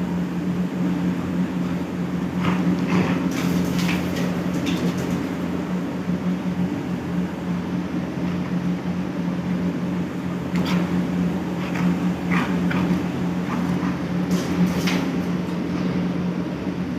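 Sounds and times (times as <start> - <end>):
motor humming: 0.0 - 16.8.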